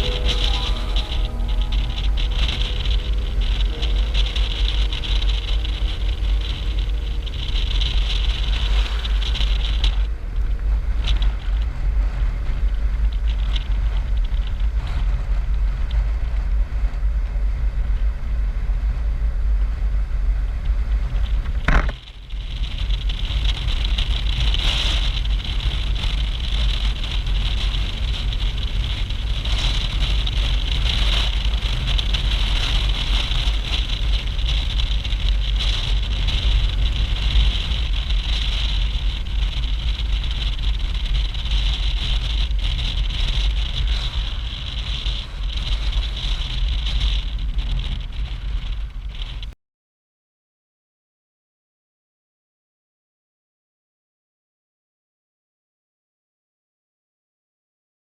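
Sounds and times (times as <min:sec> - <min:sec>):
motorcycle engine and road noise: 0:00.0 - 0:49.6
wind rumble on microphone: 0:00.0 - 0:49.6.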